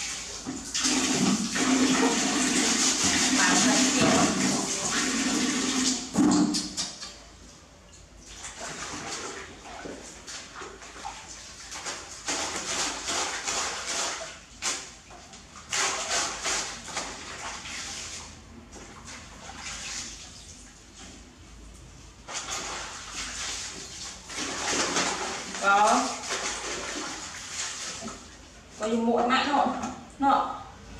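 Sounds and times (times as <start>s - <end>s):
water splashing in metal basin: 0.0s - 7.2s, 8.3s - 20.6s, 22.2s - 28.5s.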